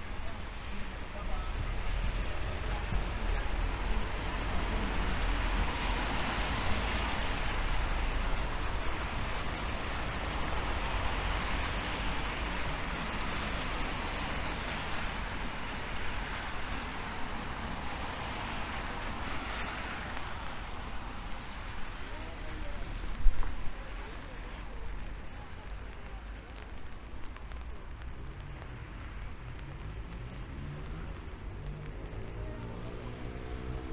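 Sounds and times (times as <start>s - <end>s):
falling rain: 0.0s - 33.9s
tyres on wet road: 0.0s - 33.9s.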